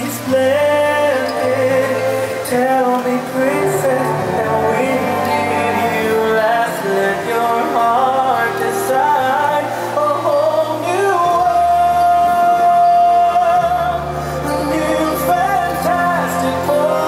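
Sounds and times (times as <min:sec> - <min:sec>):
instrumental music: 0:00.0 - 0:17.0
person singing: 0:00.0 - 0:17.0.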